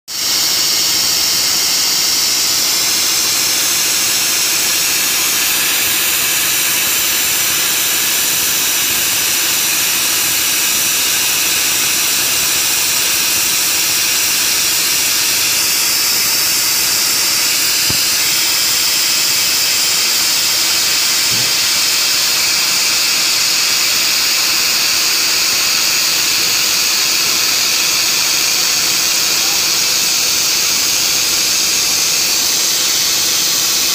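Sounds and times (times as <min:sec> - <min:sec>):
cutting torch hissing: 0:00.1 - 0:33.9.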